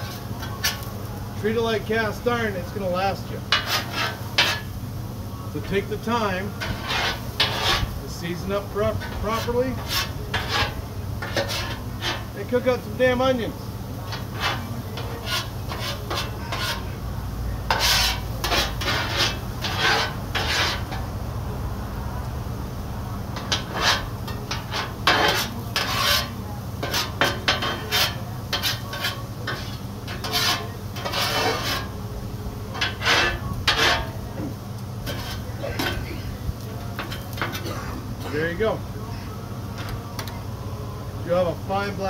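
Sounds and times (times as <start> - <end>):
metal spatula scraping on griddle: 0.0 - 4.8, 5.6 - 17.0, 17.6 - 21.1, 23.3 - 38.7
steady low hum: 0.0 - 42.0.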